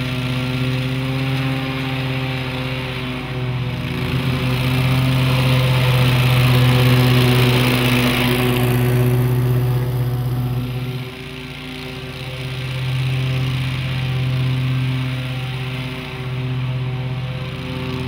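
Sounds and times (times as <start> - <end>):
mower engine humming: 0.0 - 18.0.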